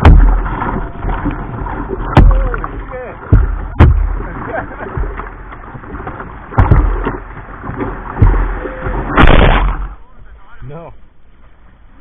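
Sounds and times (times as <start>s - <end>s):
loud splash: 0.0s - 10.0s
ocean surf rushing: 0.0s - 10.1s
water slapping a kayak: 0.0s - 10.4s.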